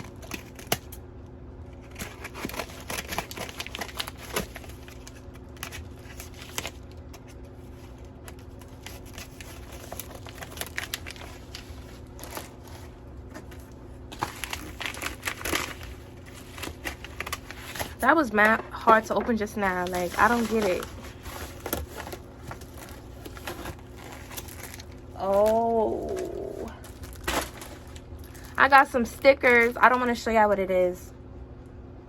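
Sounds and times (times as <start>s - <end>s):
package wrapping crinkling and tearing: 0.0s - 1.0s, 1.6s - 18.6s, 19.4s - 30.0s.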